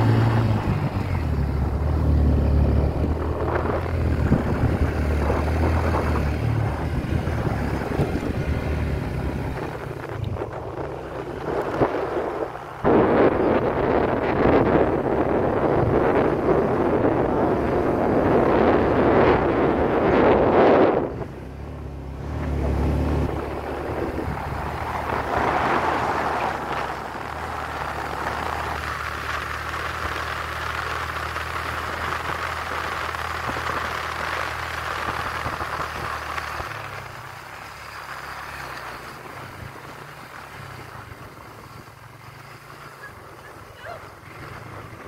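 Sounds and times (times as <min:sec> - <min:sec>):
wind rushing over microphone: 0:00.0 - 0:37.2
motorcycle engine running: 0:00.0 - 0:45.0
road noise: 0:00.0 - 0:45.0.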